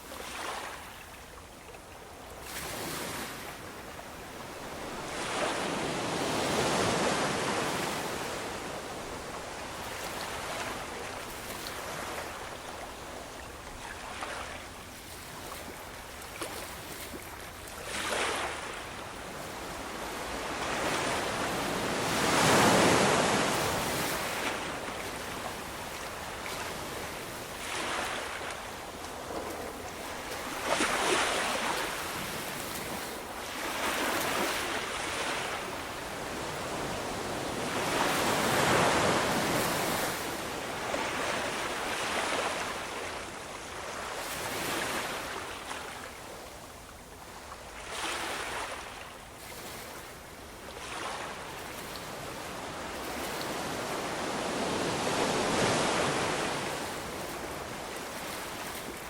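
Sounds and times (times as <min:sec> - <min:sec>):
ocean waves breaking: 0:04.4 - 0:14.7, 0:15.4 - 0:46.0, 0:50.7 - 0:59.0.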